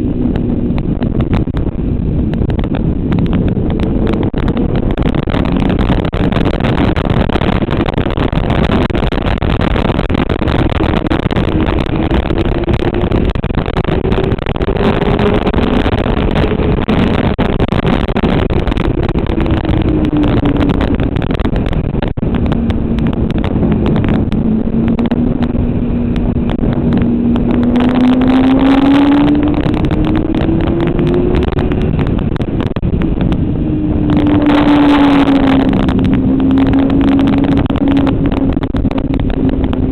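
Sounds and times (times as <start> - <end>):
loud steady rushing noise: 0.0 - 39.9
motorcycle engine revving: 0.0 - 39.9.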